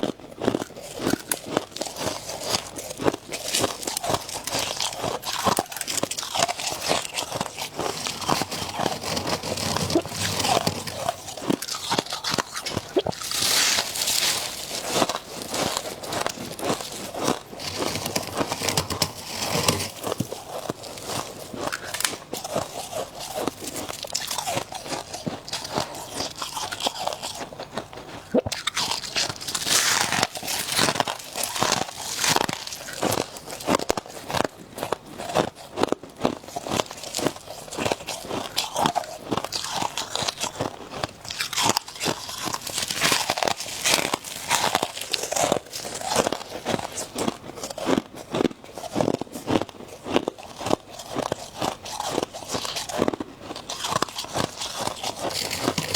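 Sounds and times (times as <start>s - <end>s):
ice being chewed: 0.0s - 55.9s.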